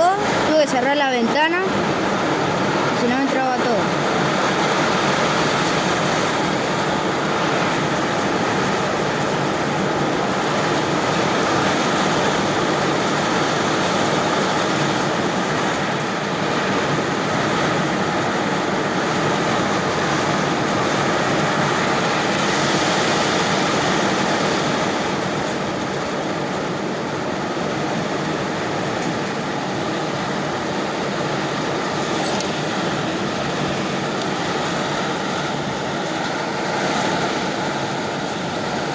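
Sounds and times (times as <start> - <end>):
strong storm wind roaring: 0.0 - 38.9.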